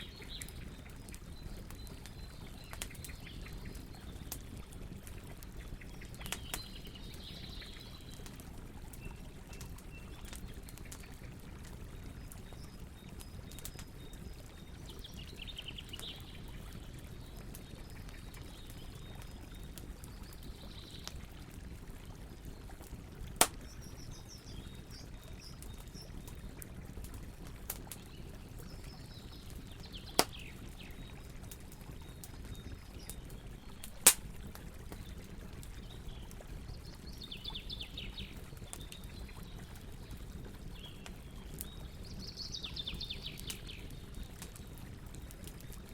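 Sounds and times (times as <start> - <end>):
campfire burning: 0.0 - 45.9
fire popping: 0.0 - 45.9.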